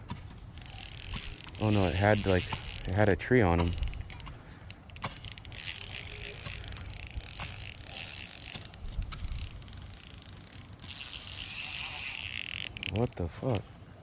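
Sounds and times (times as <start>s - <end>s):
fishing reel high whirring: 0.6s - 13.6s
fishing reel rapid clicking: 0.6s - 13.6s.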